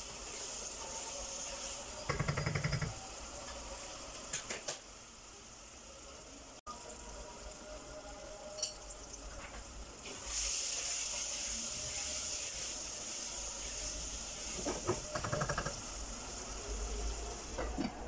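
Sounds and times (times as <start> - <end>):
potatoes sizzling in oil: 0.0 - 18.0.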